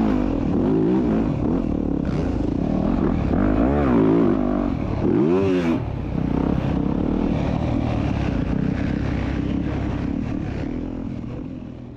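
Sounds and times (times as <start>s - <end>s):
motocross bike engine revving: 0.0s - 11.3s.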